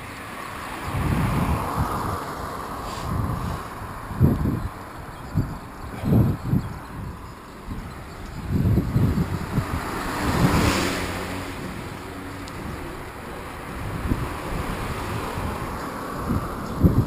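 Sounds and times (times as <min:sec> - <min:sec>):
rushing noise: 0:00.0 - 0:17.0
wind buffeting microphone: 0:00.0 - 0:17.0.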